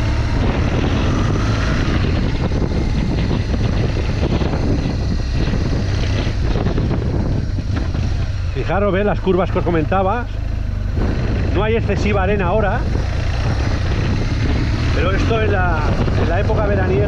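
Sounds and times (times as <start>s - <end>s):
motorcycle engine drone: 0.0s - 17.0s
wind rushing: 0.0s - 17.0s.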